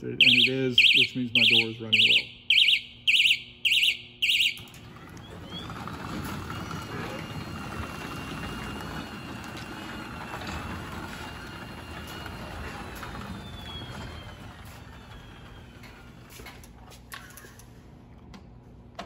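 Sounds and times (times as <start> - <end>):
garage door opener motor humming: 0.2 - 19.0.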